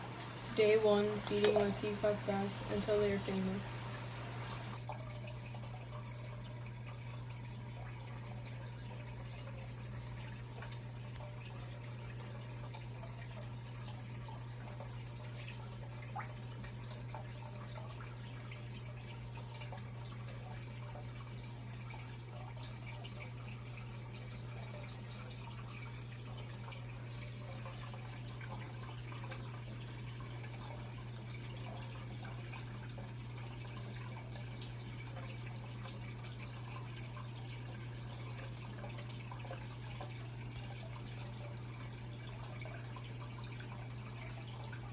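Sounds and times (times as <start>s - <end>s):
aquarium filter hum: 0.0s - 44.9s
water running and dripping: 0.0s - 44.9s.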